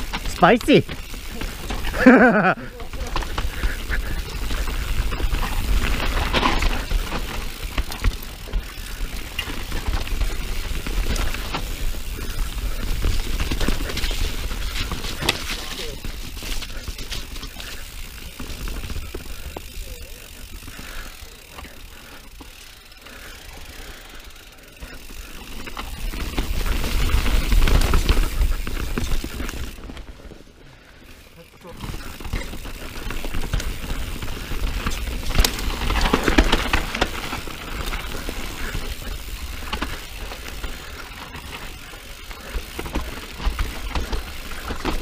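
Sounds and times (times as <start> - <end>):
bike parts clicking and rattling: 0.0 - 45.0
tyres rumbling on dirt trail: 0.0 - 45.0.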